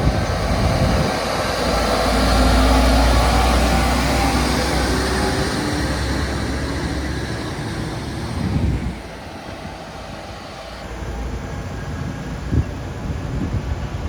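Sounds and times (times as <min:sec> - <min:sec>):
mobile crane engine rumbling: 0:00.0 - 0:14.0.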